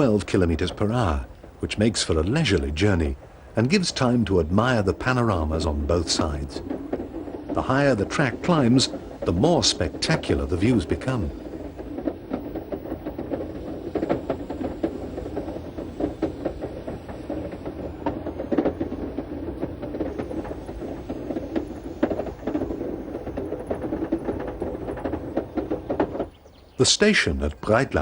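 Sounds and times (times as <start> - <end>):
clicks and knocks from wheels: 0.0 - 26.8
rack train climbing: 0.0 - 28.0.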